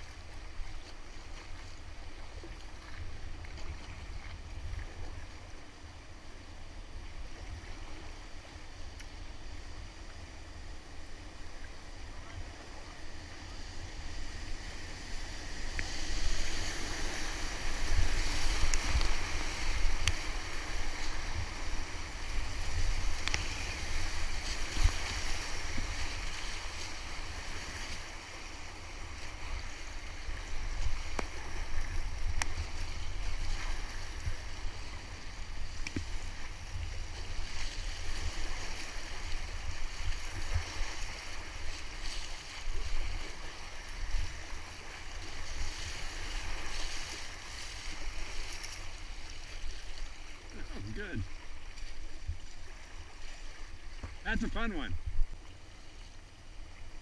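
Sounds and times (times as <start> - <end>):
wind rumble on microphone: 0.0 - 54.3, 54.9 - 57.0.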